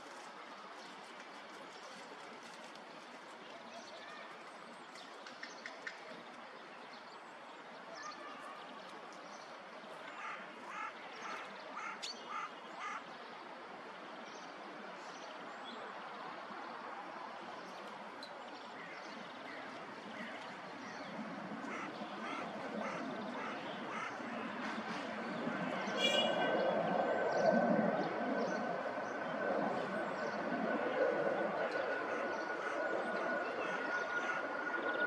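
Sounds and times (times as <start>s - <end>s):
outdoor park ambience: 0.0s - 35.0s.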